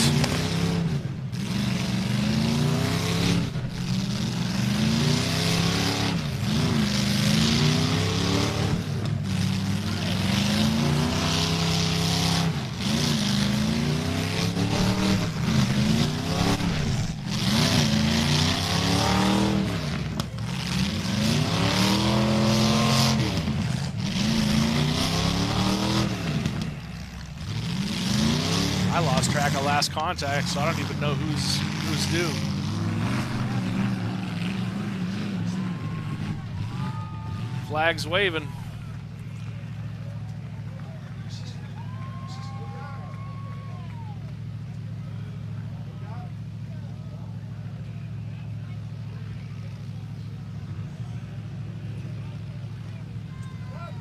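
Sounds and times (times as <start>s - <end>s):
car engines revving hard: 0.0s - 53.5s.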